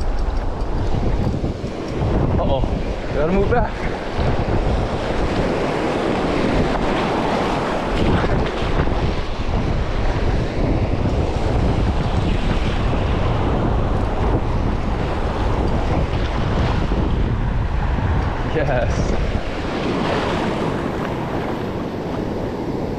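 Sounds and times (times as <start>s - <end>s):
surf washing over reef: 0.0s - 22.9s
wind buffeting microphone: 0.0s - 22.9s.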